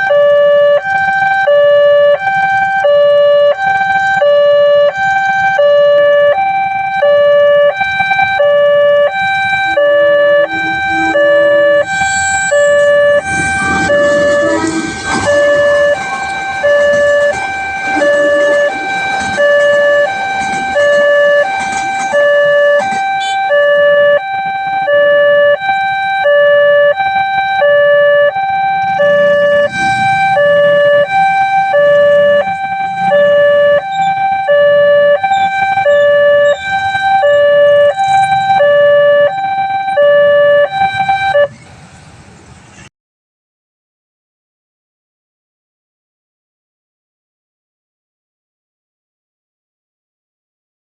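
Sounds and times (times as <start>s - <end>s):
two-tone level-crossing siren: 0.0s - 41.6s.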